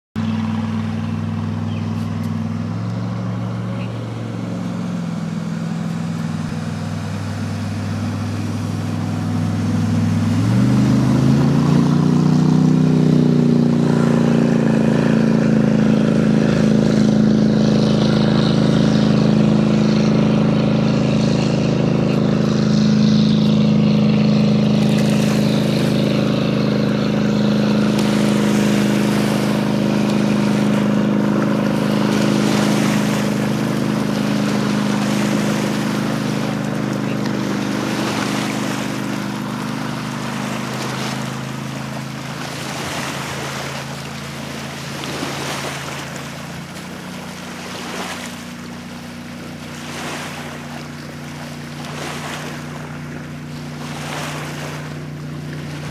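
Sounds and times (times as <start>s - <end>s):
boat engine revving: 0.2s - 55.9s.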